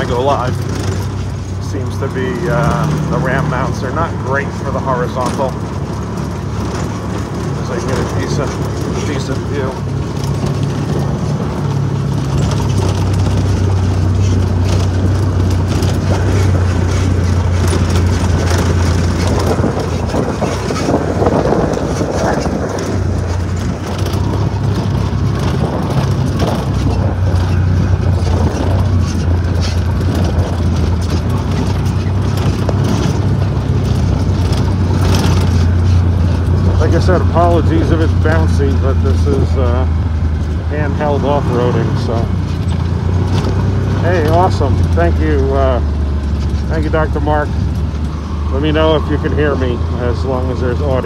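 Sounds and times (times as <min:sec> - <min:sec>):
engine running with low drone: 0:00.0 - 0:51.0
rattle of rough ride: 0:00.0 - 0:51.0
wind noise: 0:00.0 - 0:51.0.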